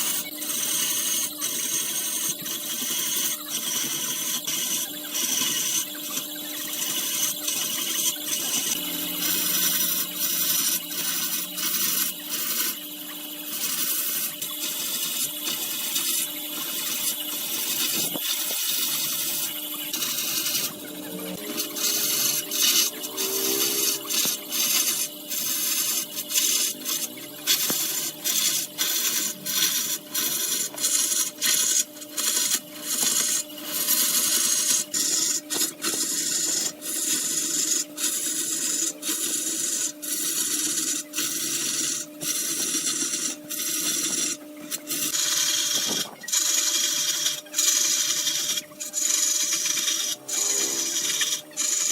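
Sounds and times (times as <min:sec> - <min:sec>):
tool scraping spinning wood: 0:00.0 - 0:51.9
wood lathe humming: 0:00.0 - 0:51.9.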